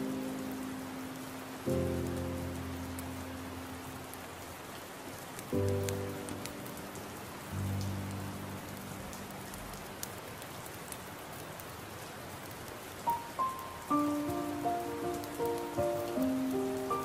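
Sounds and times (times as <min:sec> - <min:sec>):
soft piano music: 0:00.0 - 0:11.0, 0:12.8 - 0:17.0
steady rain falling: 0:00.0 - 0:17.0.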